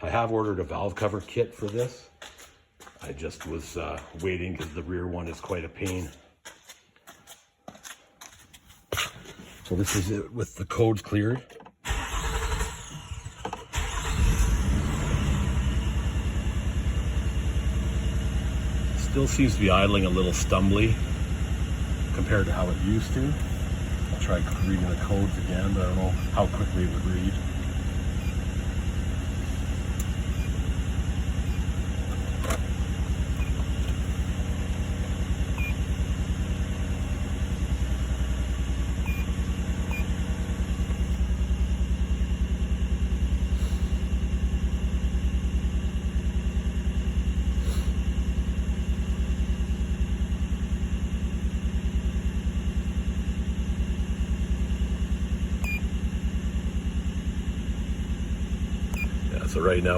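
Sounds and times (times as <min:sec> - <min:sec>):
car engine idling roughly: 0:11.8 - 0:59.9.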